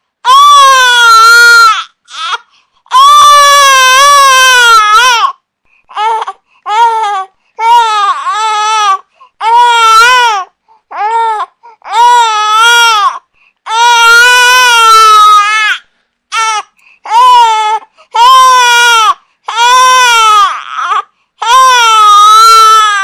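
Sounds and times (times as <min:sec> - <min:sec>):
infant crying: 0:00.2 - 0:23.0.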